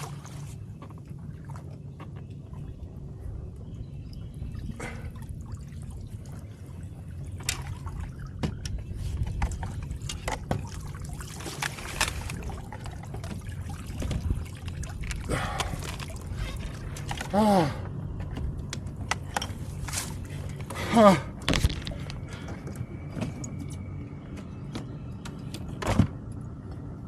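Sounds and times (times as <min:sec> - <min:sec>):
water splashing and trickling: 0:00.0 - 0:24.0
steady low rumble: 0:00.0 - 0:27.0.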